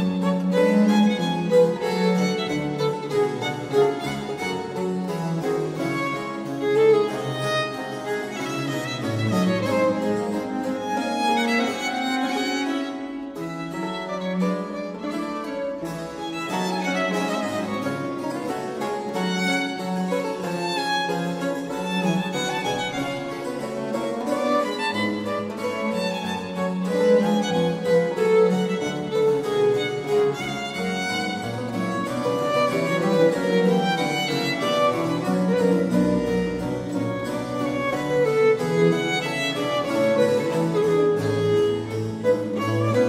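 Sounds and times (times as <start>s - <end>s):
archlute: 0.0s - 43.0s
harpsichord: 0.0s - 43.0s
violin playing: 0.0s - 43.0s.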